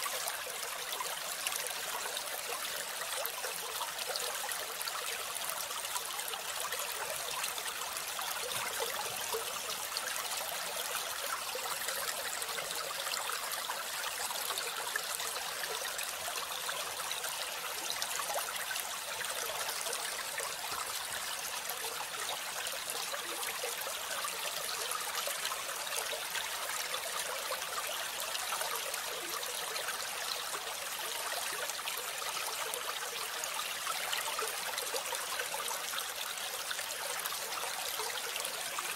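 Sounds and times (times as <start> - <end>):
trickling rushing water: 0.0 - 38.9.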